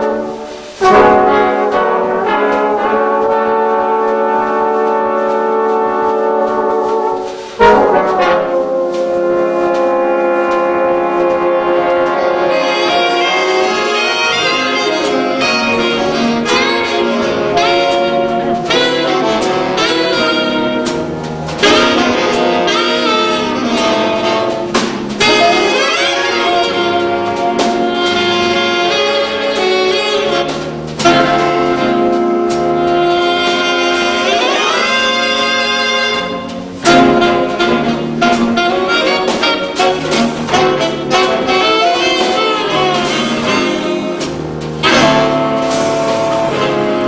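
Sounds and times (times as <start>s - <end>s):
big jazz band playing: 0.0s - 47.0s
rising brass glides: 0.0s - 47.0s.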